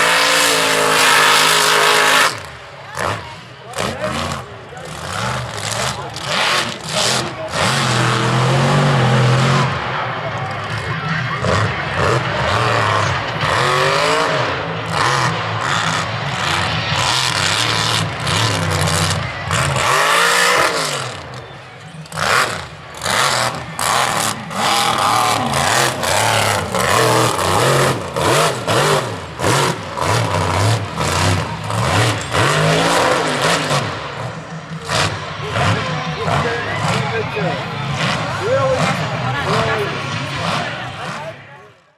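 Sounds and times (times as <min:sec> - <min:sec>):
truck engine revving hard: 0:00.0 - 0:41.6.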